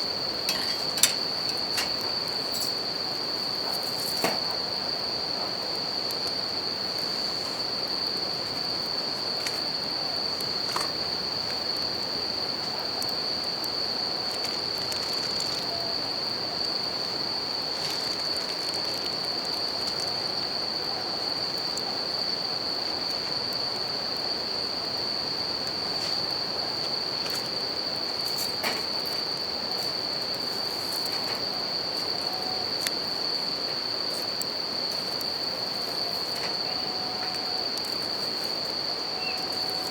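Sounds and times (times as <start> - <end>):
campfire crackles: 0.0 - 39.9
crickets singing: 0.0 - 39.9.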